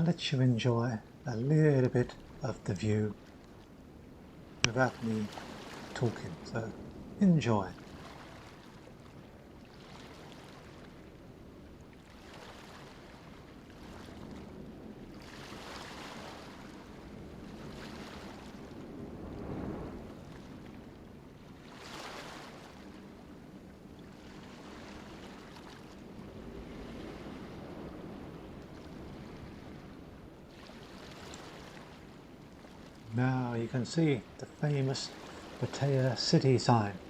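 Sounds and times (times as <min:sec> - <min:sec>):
small waves washing on beach: 0:00.0 - 0:37.0.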